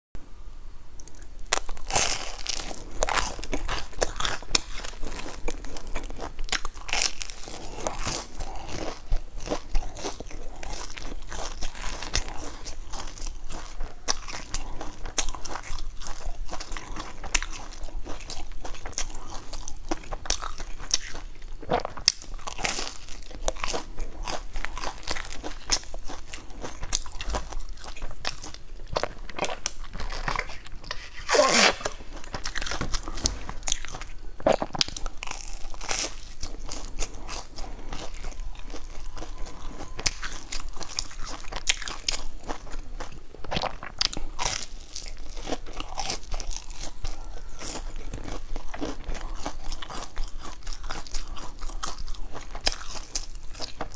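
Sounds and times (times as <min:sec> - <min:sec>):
crunchy bread being chewed: 0:01.0 - 0:53.9.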